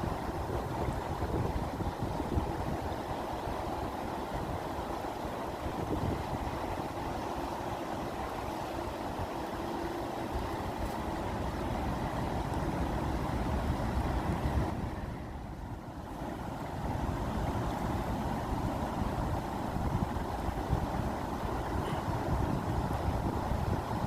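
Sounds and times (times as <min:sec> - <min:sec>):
rushing water rumble: 0:00.0 - 0:24.0.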